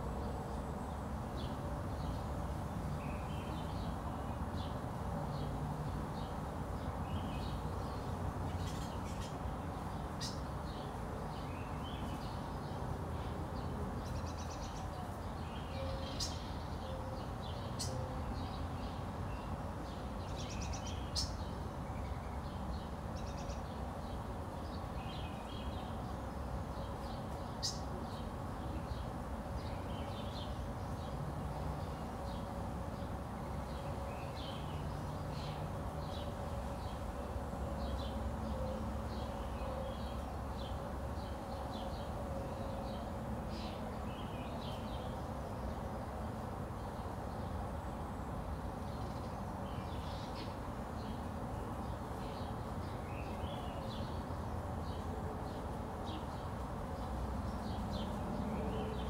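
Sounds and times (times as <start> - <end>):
small birds chirping: 5.4 - 59.0.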